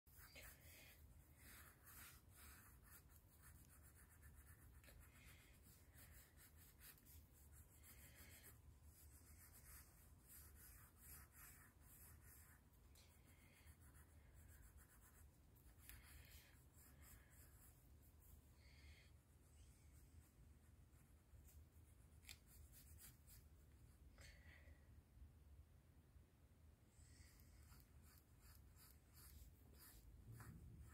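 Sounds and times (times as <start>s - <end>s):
pencil scratching on paper: 0.1s - 18.4s, 19.2s - 23.6s, 27.2s - 30.9s.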